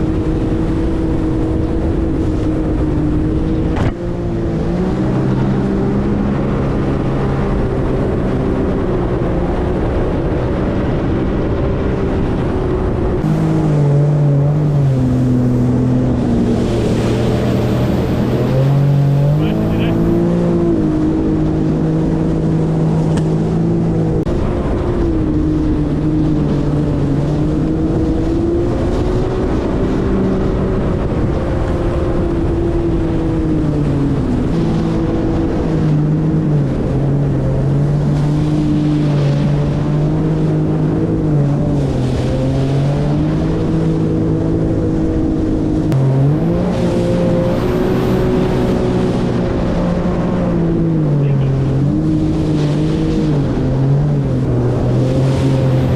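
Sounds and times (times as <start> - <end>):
personal watercraft engine running: 0.0 - 55.9
rushing water: 0.0 - 55.9.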